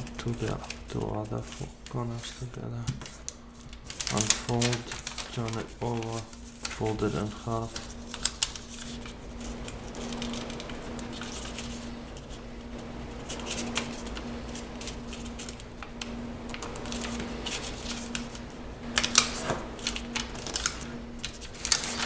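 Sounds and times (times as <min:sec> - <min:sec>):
paper crackles: 0:00.0 - 0:22.0
paper rustling and crinkling: 0:00.0 - 0:22.0.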